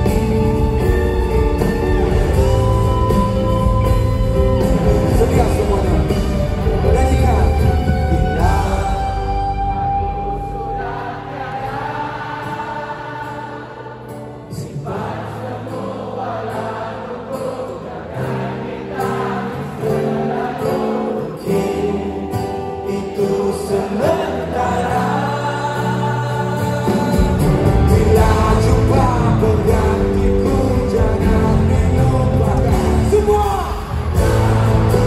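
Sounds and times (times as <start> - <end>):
crowd singing along: 0.0 - 7.4, 8.2 - 35.0
live band with guitars: 0.0 - 35.0.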